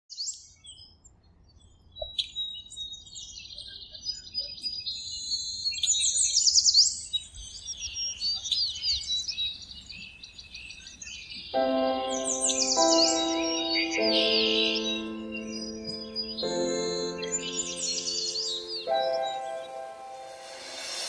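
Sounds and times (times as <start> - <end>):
birds singing and chirping: 1.6 - 21.0.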